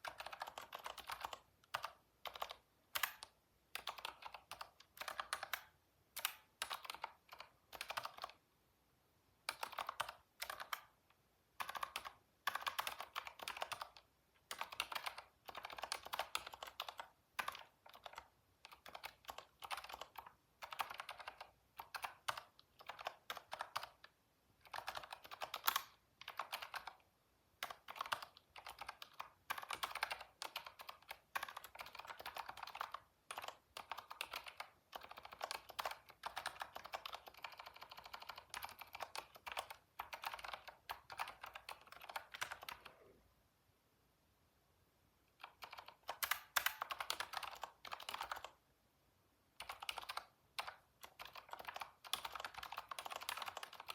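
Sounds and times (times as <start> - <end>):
keyboard typing: 0.0 - 8.4, 9.4 - 11.0, 11.6 - 43.2, 45.3 - 48.6, 49.6 - 53.9.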